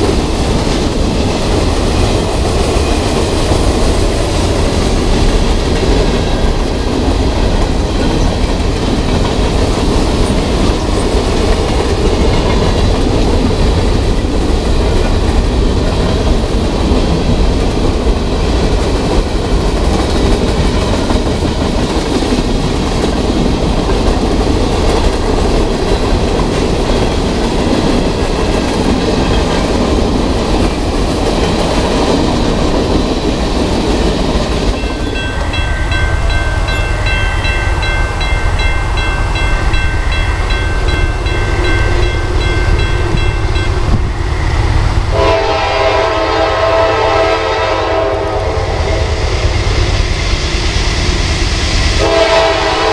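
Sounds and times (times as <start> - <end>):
wheels clickety-clack on rails: 0.0 - 47.9
freight train rumbling past: 0.0 - 52.9.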